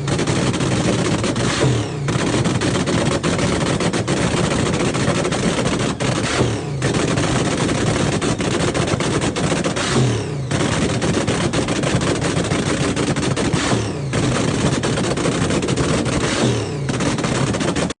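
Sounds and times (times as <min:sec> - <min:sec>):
drag racing car engine crackling: 0:00.0 - 0:18.0.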